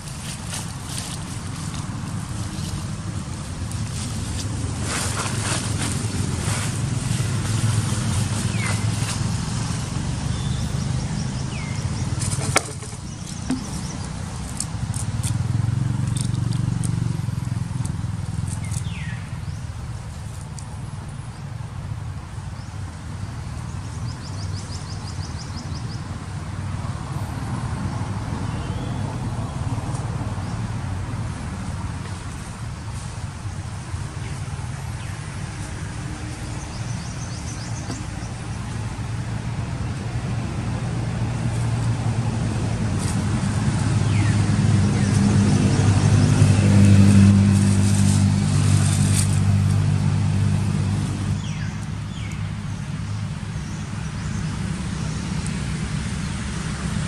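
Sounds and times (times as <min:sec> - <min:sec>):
dry leaves crackling: 0:00.0 - 0:21.3, 0:28.4 - 0:57.0.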